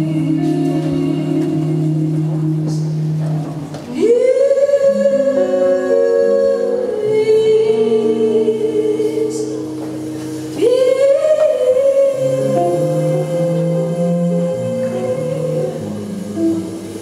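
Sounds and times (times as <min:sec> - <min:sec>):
woman singing long notes: 0:00.0 - 0:03.2, 0:03.8 - 0:17.0
guitar and double bass: 0:00.0 - 0:17.0.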